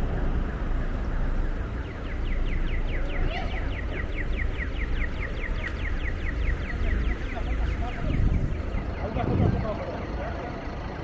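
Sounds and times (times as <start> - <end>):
crossing signal chirping: 0.0 - 11.0
street traffic rumble: 0.0 - 11.0.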